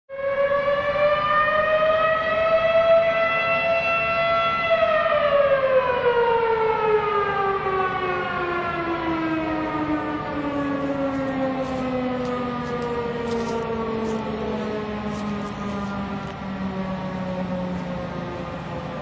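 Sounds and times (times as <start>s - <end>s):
warning siren winding down: 0.1s - 19.0s.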